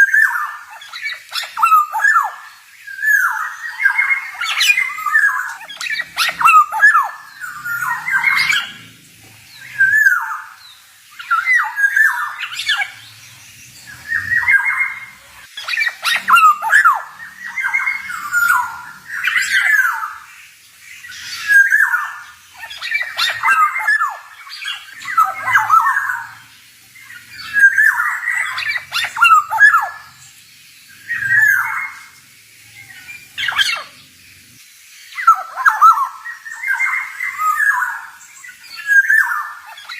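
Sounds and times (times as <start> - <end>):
oriole singing whistled notes: 0.0 - 8.9, 9.5 - 34.1, 35.0 - 39.9.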